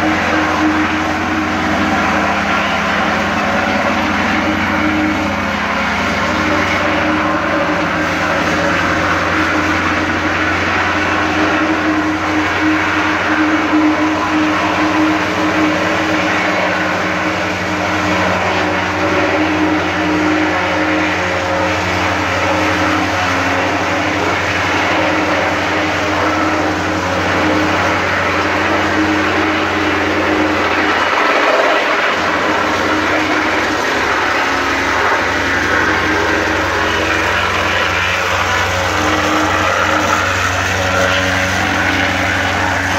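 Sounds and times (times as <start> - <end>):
plate compactor engine running: 0.0 - 42.9.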